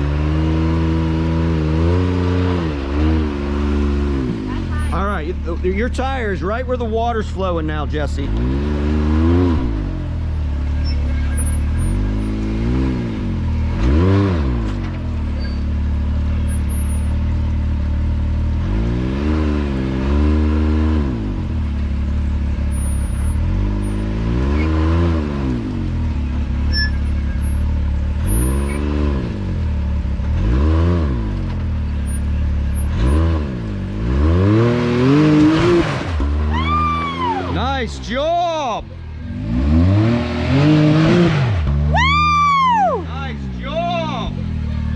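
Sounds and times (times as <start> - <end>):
engine revving under load: 0.0 - 17.3, 18.4 - 21.8, 22.5 - 38.3, 38.9 - 44.9.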